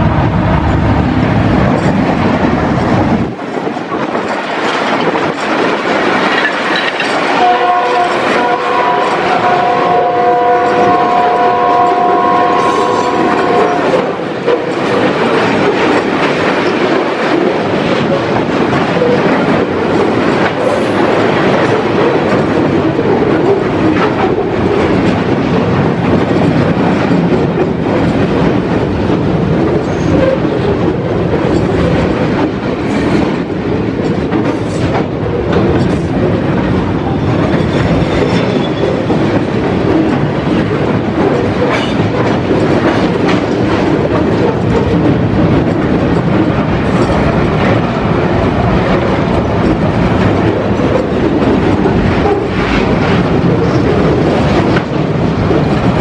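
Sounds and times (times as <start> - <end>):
freight train wheels rumbling: 0.0 - 56.0
wheels clicking over rail joints: 1.6 - 8.6, 12.5 - 56.0.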